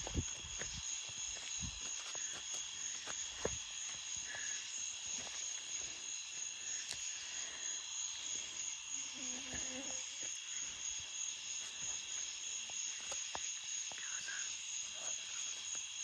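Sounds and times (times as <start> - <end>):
crickets buzzing: 0.0 - 16.0.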